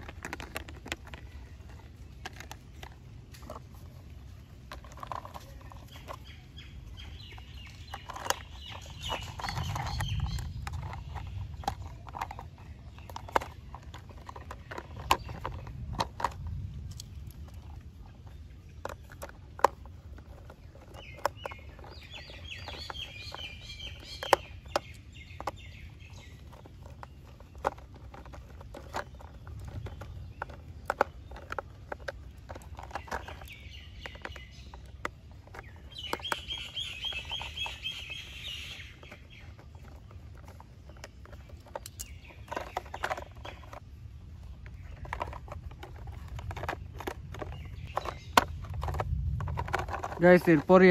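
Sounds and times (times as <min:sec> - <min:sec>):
plastic toy parts clicking and knocking: 0:00.0 - 0:50.9
bird chirping trills: 0:04.3 - 0:16.6, 0:17.3 - 0:50.9.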